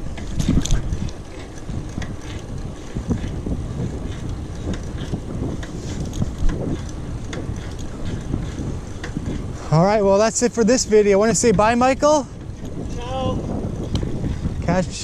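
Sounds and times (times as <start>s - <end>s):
light clicks and rattles: 0.0s - 15.0s
wind buffeting microphone: 0.0s - 15.0s.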